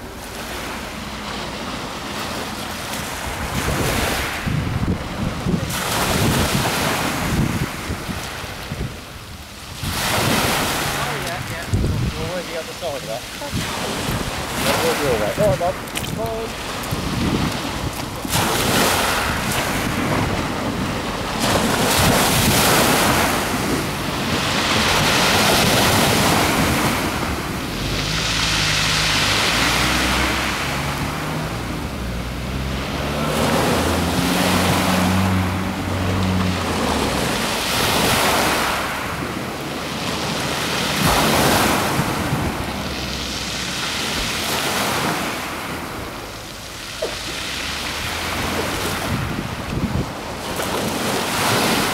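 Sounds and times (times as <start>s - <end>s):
wind buffeting microphone: 0.0s - 46.4s, 47.9s - 51.9s
small waves washing against shore: 0.0s - 51.9s.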